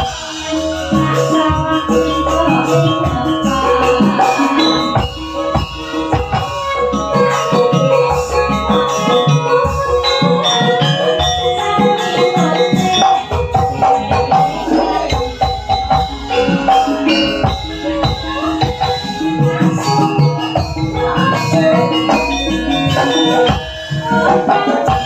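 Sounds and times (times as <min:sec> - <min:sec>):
gamelan-style pitched percussion: 0:00.0 - 0:25.0
steady drum beat: 0:00.0 - 0:25.0.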